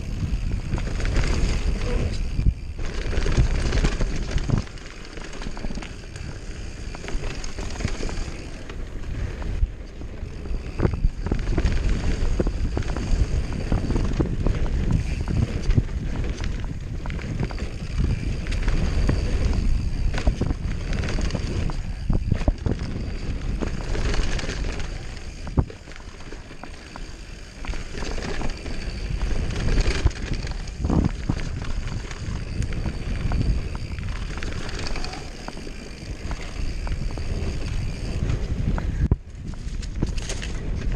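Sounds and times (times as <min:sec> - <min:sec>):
bike rattling over bumps: 0:00.0 - 0:40.9
wind on microphone: 0:00.0 - 0:40.9.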